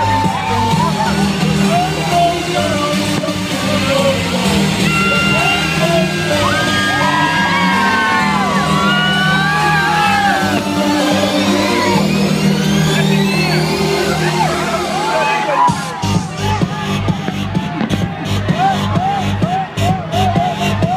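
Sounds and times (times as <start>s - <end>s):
crowd yelling and whooping: 0.0s - 2.8s, 3.7s - 20.9s
loud party music: 0.0s - 20.9s.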